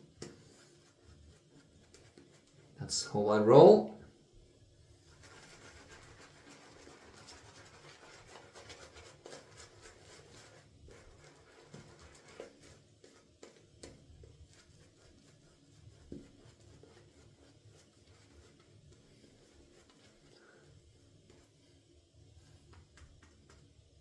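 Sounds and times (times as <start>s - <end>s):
shaving brush scrubbing lather: 0.0s - 3.8s, 4.9s - 21.8s.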